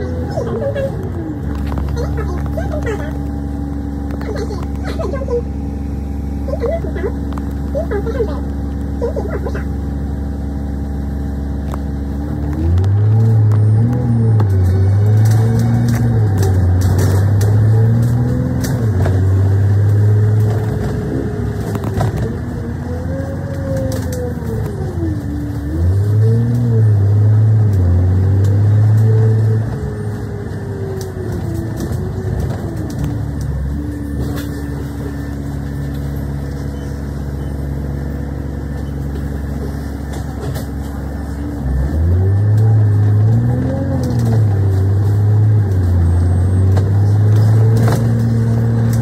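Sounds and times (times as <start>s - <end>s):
bus diesel engine: 0.0s - 49.0s.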